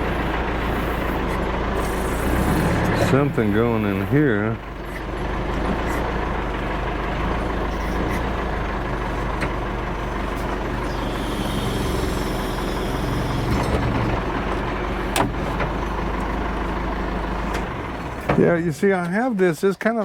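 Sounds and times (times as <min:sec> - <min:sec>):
backhoe engine idling: 0:00.0 - 0:20.0.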